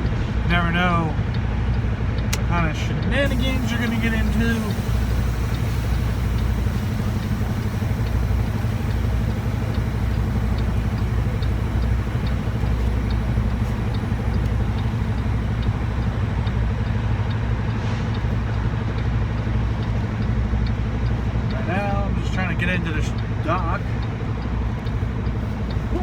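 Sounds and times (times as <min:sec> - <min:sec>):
diesel engine rumbling: 0:00.0 - 0:26.0
light regular ticking: 0:00.7 - 0:26.0.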